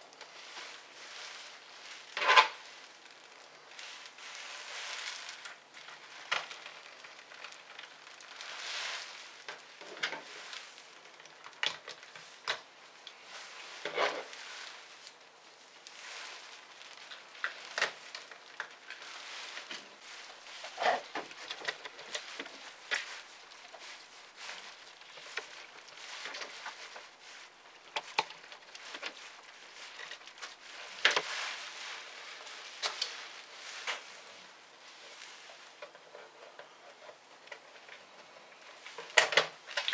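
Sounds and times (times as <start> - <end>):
crackly rustle of handling: 0.0 - 39.9.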